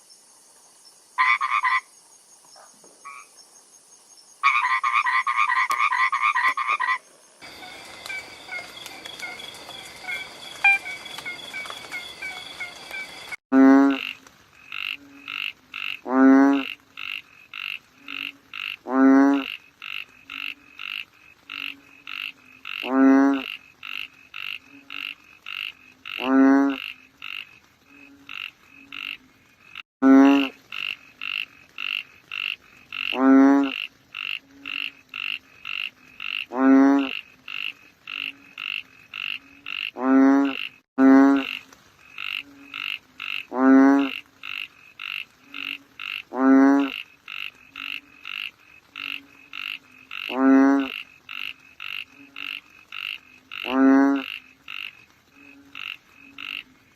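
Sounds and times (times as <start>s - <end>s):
chorus of high frog calls: 1.2s - 2.0s, 4.4s - 56.9s
frog low pulsing croak: 4.4s - 56.9s.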